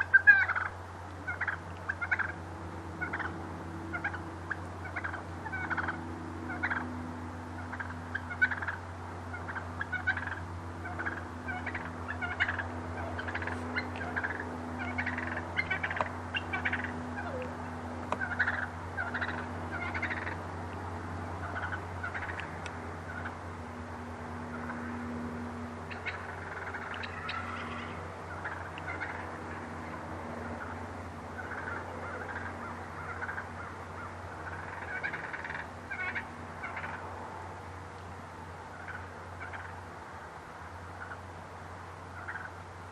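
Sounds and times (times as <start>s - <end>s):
wild turkeys calling: 0.0s - 23.5s, 24.5s - 25.0s, 25.8s - 37.1s, 38.6s - 40.2s, 40.8s - 41.3s, 42.1s - 42.6s
steady low hum: 0.0s - 42.9s.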